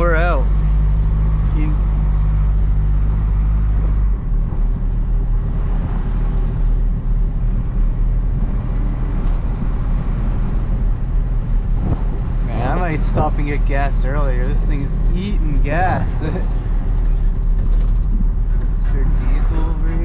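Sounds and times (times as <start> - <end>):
road noise: 0.0 - 20.0
truck diesel engine running: 0.0 - 20.0.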